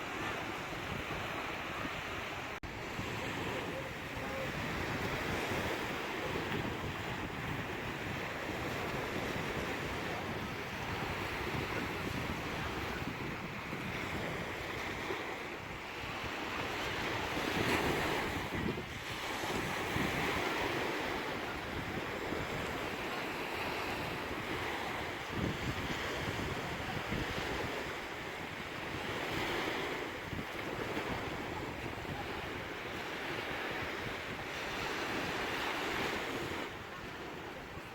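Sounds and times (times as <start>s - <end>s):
sea waves breaking: 0.0s - 37.9s.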